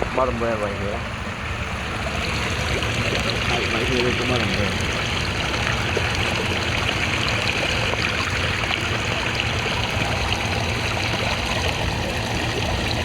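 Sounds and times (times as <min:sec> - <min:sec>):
water splashing and trickling: 0:00.1 - 0:13.0.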